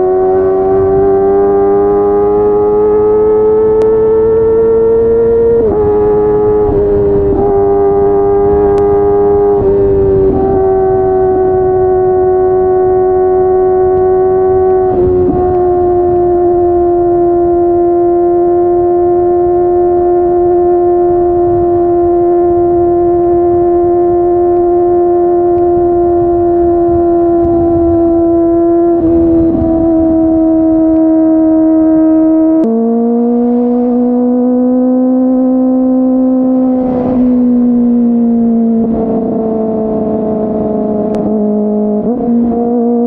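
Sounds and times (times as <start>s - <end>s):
motorcycle engine at high revs: 0.0s - 43.0s.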